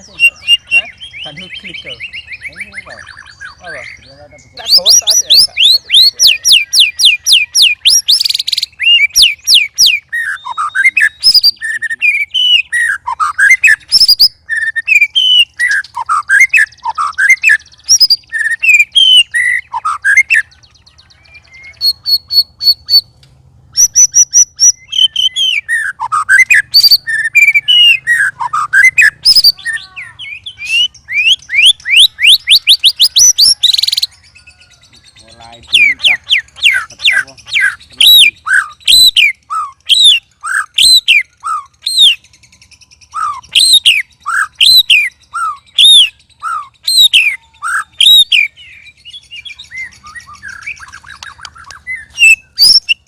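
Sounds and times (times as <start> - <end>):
songbird singing whistles: 0.0 - 23.1, 23.7 - 53.0.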